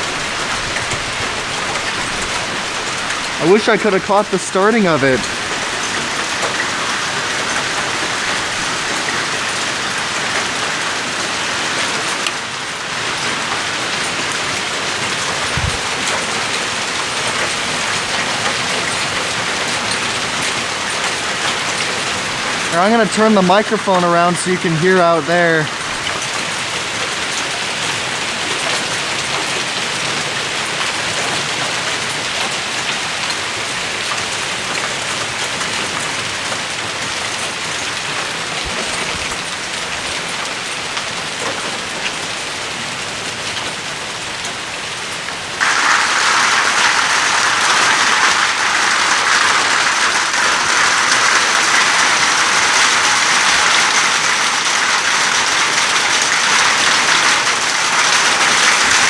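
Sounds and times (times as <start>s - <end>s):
hail and rain pelting down: 0.0s - 59.0s.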